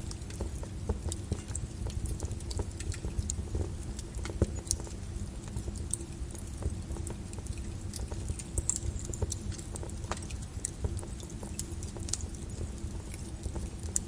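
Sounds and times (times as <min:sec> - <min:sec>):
lava flow crackling and popping: 0:00.0 - 0:14.0.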